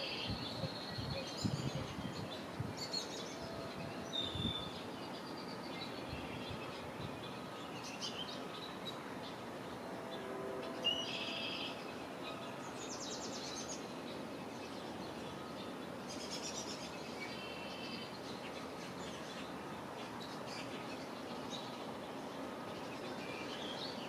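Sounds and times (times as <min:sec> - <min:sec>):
songbirds buzzy trills: 0:00.0 - 0:24.0
steady background hiss: 0:00.0 - 0:24.0.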